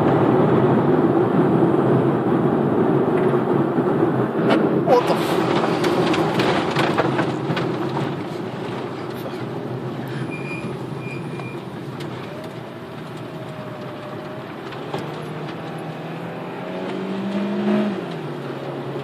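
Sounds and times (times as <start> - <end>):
car engine revving: 0.0 - 19.0
road and tyre noise: 0.0 - 19.0.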